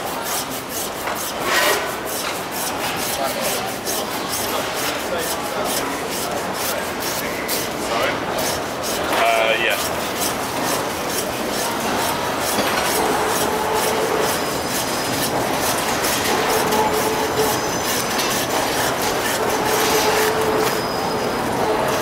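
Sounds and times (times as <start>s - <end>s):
hand saw rasping through bone: 0.0s - 20.9s.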